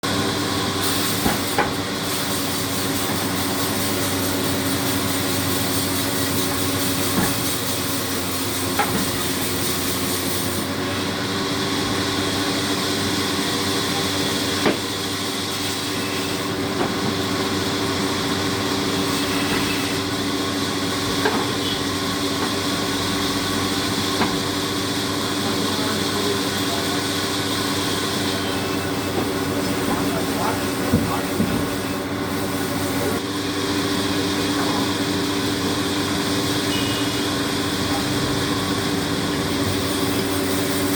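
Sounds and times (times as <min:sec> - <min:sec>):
tree-cutting machine humming: 0:00.0 - 0:40.9.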